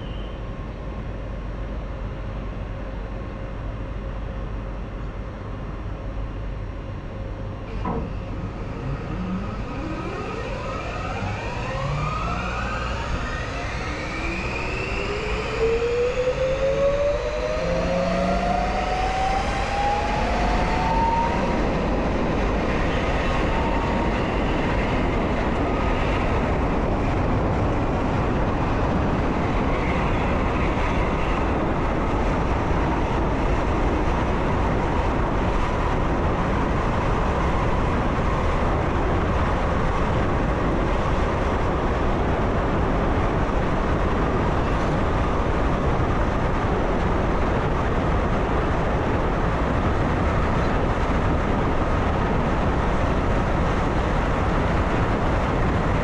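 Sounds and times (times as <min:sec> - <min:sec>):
train rumble from cab: 0:00.0 - 0:56.0.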